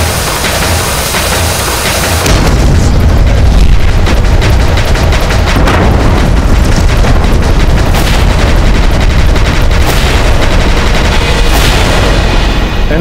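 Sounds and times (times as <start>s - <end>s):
deep rumble of explosions: 0.0s - 13.0s
sharp cannon blasts: 0.0s - 13.0s.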